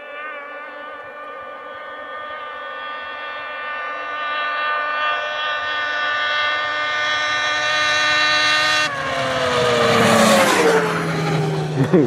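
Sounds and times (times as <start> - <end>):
snowmobile engine passing at full throttle: 0.0 - 12.0.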